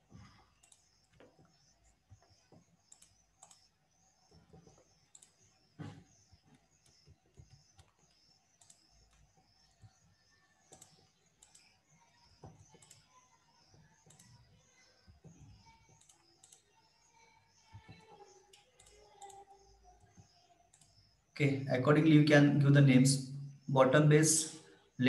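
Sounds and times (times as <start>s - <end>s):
computer mouse and keyboard clicks: 0.0s - 21.2s.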